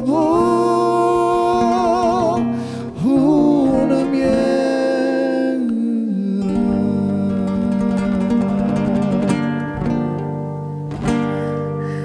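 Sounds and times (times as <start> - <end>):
man singing with vibrato: 0.0 - 10.1
fingerpicked acoustic guitar: 0.0 - 12.0.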